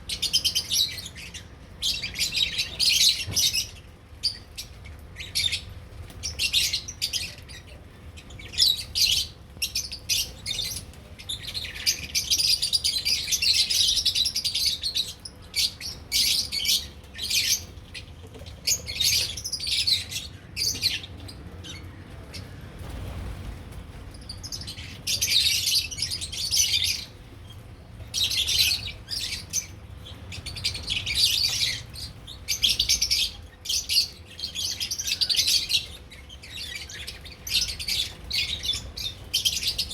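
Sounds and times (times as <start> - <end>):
lovebirds chirping: 0.0 - 22.6, 24.1 - 39.9.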